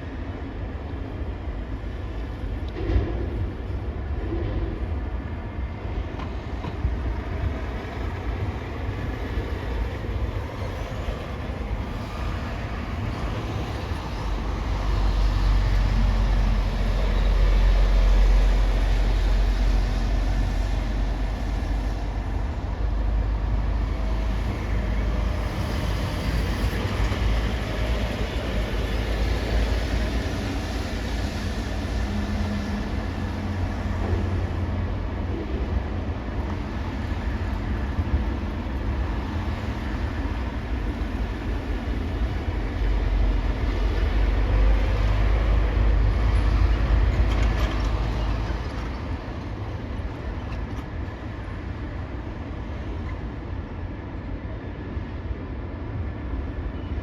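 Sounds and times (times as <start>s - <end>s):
heavy engines rumbling: 0.0s - 57.0s.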